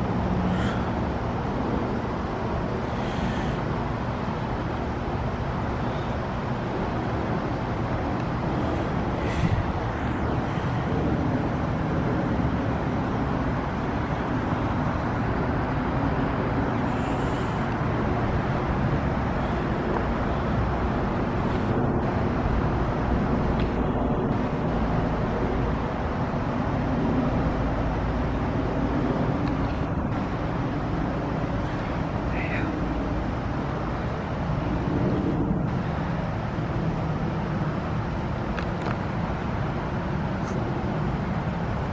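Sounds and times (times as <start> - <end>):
heat pump humming and hissing: 0.0 - 41.9.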